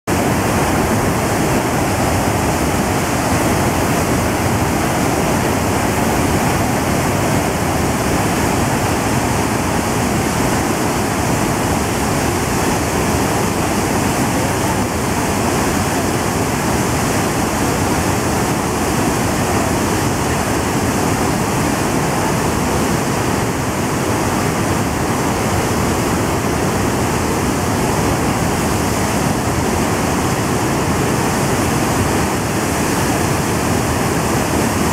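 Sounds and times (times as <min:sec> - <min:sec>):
rushing churning whitewater: 0:00.0 - 0:34.9.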